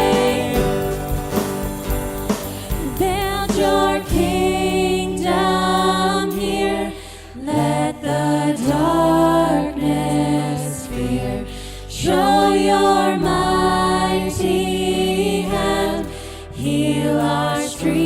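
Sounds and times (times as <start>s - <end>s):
low sustained bass notes: 0.0s - 18.0s
voices singing worship song: 0.0s - 18.0s.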